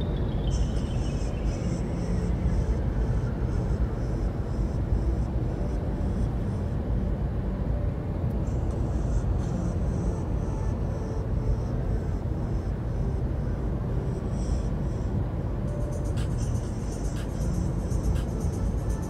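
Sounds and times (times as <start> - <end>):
road and engine rumble inside car: 1.7 - 19.0.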